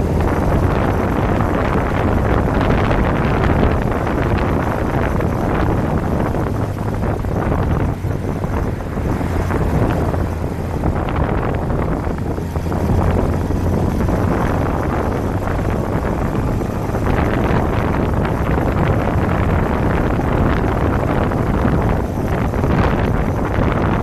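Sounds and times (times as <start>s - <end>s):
motorcycle engine running: 0.0s - 24.0s
wind noise on microphone: 0.0s - 24.0s.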